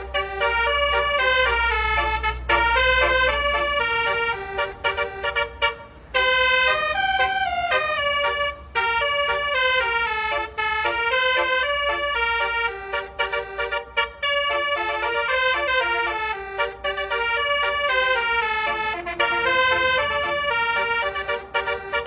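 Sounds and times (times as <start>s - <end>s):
multi-tone electric horn melody: 0.0s - 22.0s.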